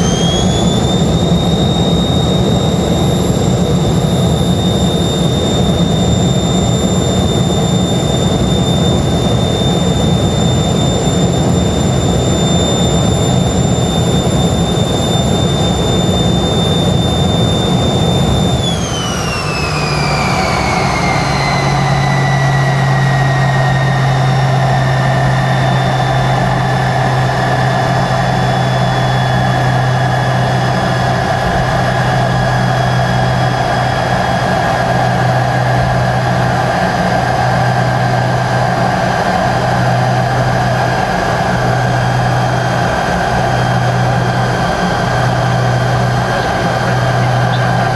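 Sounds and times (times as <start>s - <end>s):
jet engines whining: 0.0s - 47.9s.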